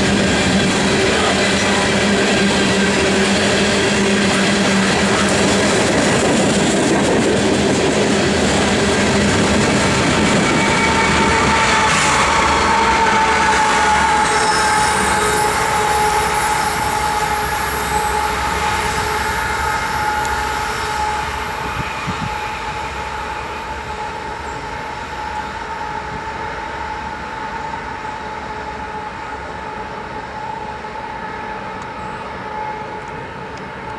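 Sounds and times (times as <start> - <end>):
freight train rolling past: 0.0 - 33.9.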